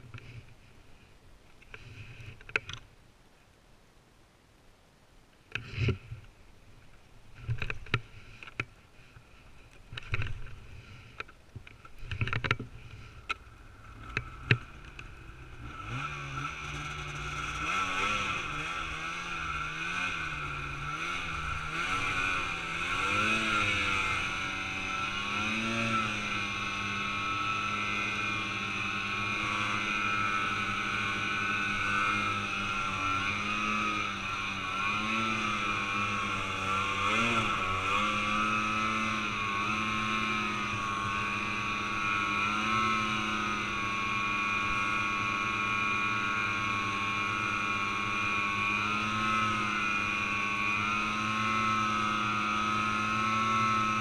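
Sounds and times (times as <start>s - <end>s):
snowmobile engine: 10.0s - 54.0s.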